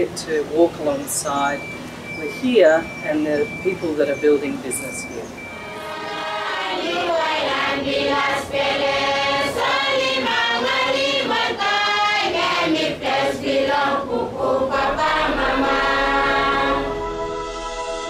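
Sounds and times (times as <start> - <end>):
held musical notes: 1.2 - 18.0
voices singing in chorus: 3.0 - 18.0.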